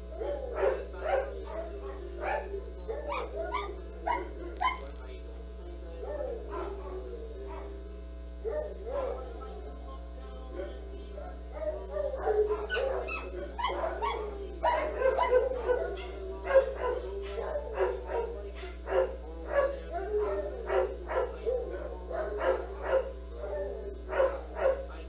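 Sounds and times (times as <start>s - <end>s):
dog barking and whining: 0.0s - 5.0s, 5.9s - 25.0s
steady low hum: 0.0s - 25.0s.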